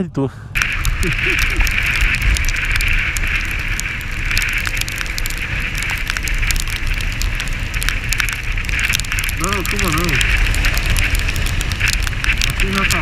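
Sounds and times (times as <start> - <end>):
wind and road noise: 0.0 - 13.0
sharp crackles: 0.4 - 13.0.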